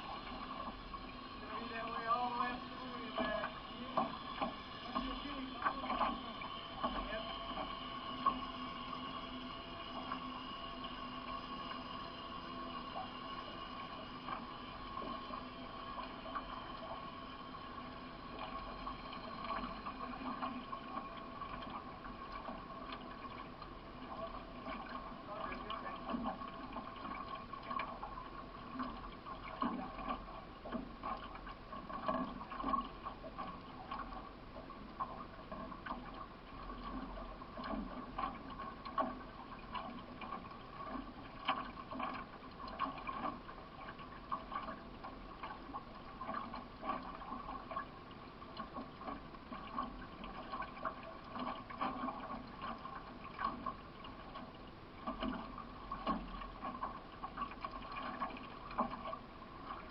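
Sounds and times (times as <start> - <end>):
paddle strokes: 0.0 - 59.9
steady hum: 0.0 - 59.9
water splashing and gurgling: 0.0 - 59.9.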